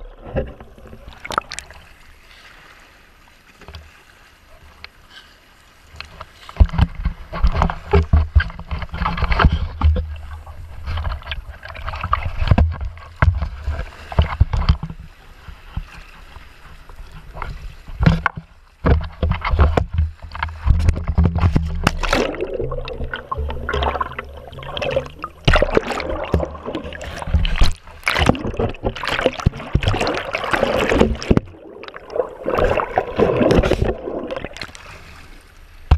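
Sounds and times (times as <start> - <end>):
water sloshing and splashing: 0.0 - 35.9.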